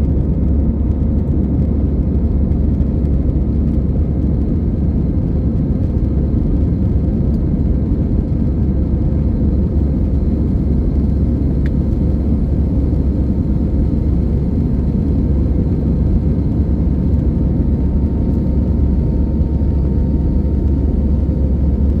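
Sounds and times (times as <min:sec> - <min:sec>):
airplane engines rumbling in cabin: 0:00.0 - 0:22.0.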